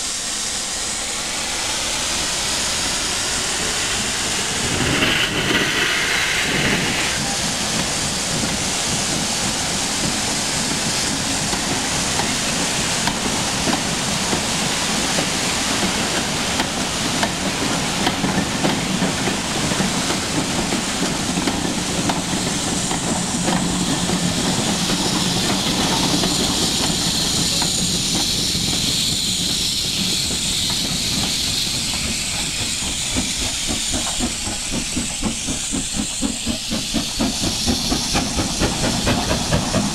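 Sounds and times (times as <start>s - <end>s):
steam hissing: 0.0s - 39.9s
train wheels clattering on rails: 2.2s - 39.9s.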